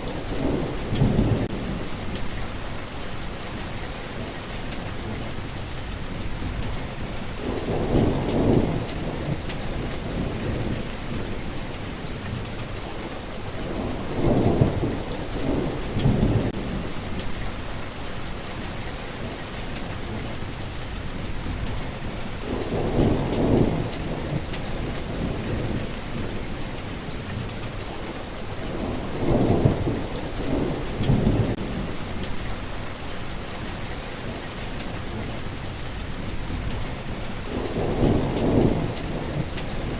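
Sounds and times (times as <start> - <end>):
steady rain falling: 0.0 - 39.9
thunder rumbling: 0.0 - 39.9.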